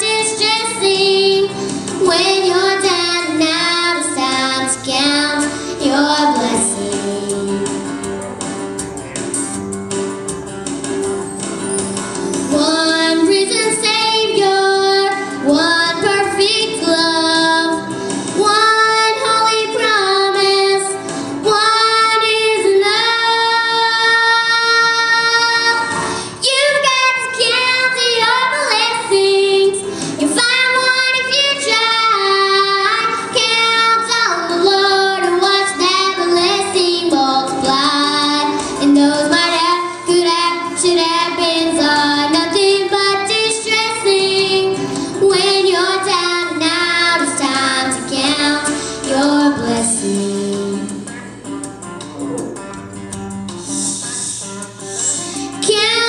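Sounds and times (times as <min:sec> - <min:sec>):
girls singing into microphones: 0:00.0 - 0:07.9, 0:12.5 - 0:51.0.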